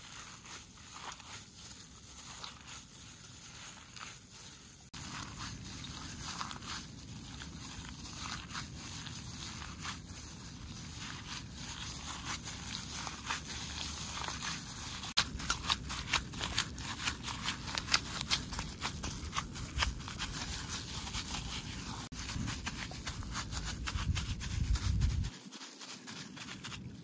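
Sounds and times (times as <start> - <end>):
gloved hand squelching in mash: 0.0 - 27.0.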